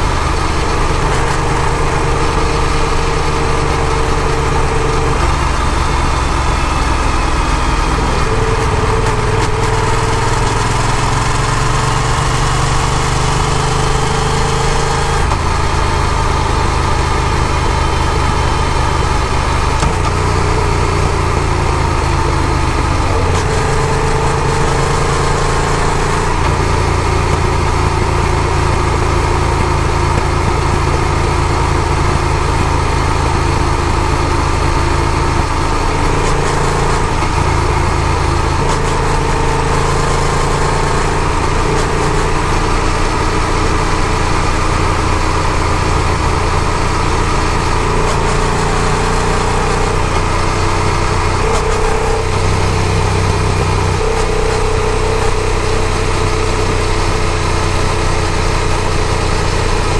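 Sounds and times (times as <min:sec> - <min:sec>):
continuous rushing noise: 0:00.0 - 0:59.9
motorcycle engine running: 0:00.0 - 0:59.9.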